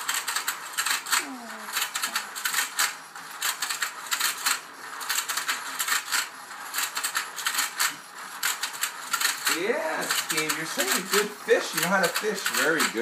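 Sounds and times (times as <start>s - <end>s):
toy plastic gears clicking: 0.0s - 13.0s.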